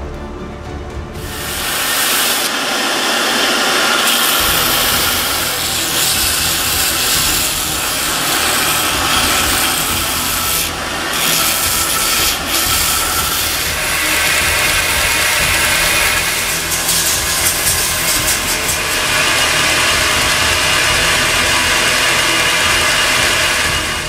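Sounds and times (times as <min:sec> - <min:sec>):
motor hum: 0:01.2 - 0:24.0
wood rasping on grinder belt: 0:01.2 - 0:24.0.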